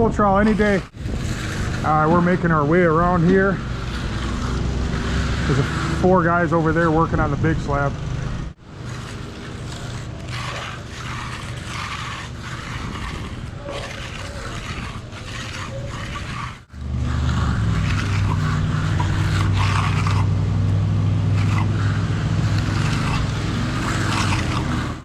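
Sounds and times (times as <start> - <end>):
scraping on concrete: 0.0 - 25.0
power trowel engines running: 0.2 - 25.0.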